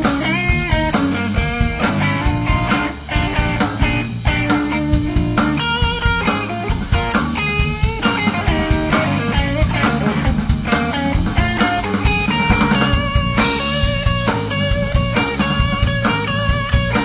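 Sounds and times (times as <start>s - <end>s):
blues band playing: 0.0s - 17.0s
electric guitar bending notes: 0.0s - 17.0s.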